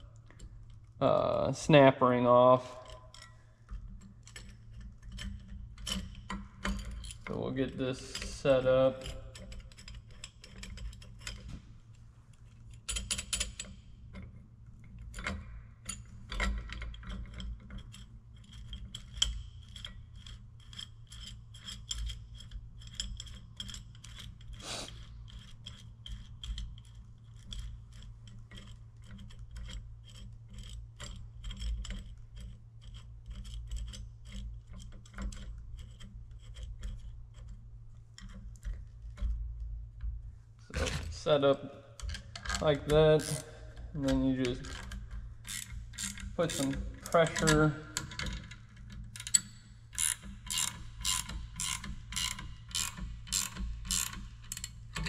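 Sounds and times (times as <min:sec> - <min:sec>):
metal parts clinking and scraping: 0:02.6 - 0:11.6, 0:12.3 - 0:39.4, 0:40.7 - 0:55.0.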